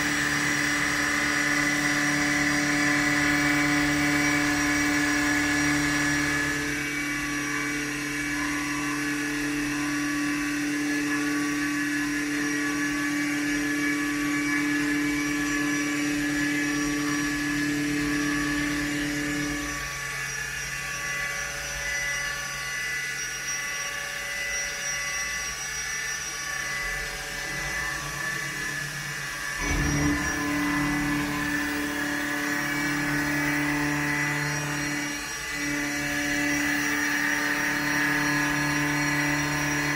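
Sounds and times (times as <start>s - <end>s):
metal cutting noise: 0.0s - 39.9s
milling machine whine: 0.0s - 39.9s.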